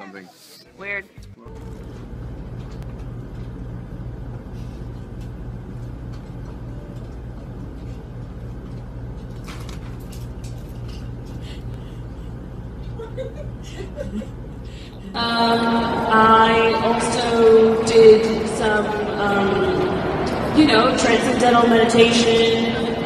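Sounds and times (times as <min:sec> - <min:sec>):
steady low drone: 0:00.6 - 0:23.0.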